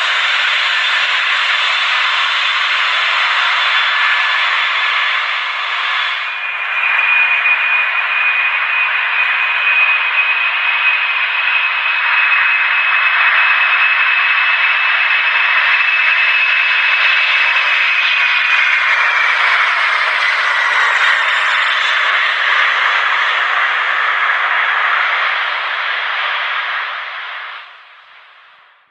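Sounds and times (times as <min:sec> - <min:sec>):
jet engine rushing whine: 0:00.0 - 0:28.9.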